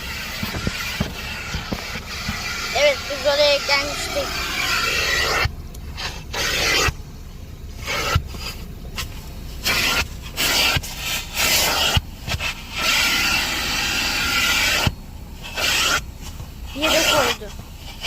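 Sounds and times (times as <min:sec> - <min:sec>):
vacuum nozzle sucking over mat: 0:00.0 - 0:07.0, 0:07.8 - 0:18.0.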